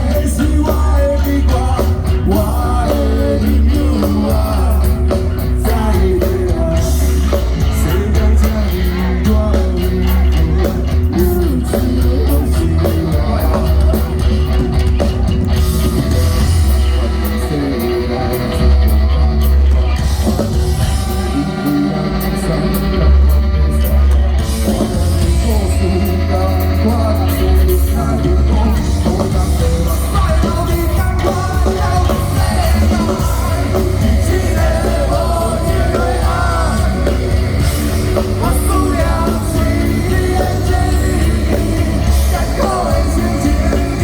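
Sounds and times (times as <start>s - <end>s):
live rock band: 0.0s - 44.0s
person singing: 0.0s - 44.0s.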